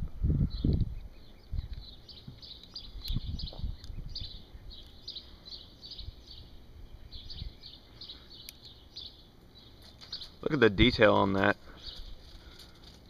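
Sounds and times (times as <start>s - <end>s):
small birds chirping: 0.4s - 13.0s.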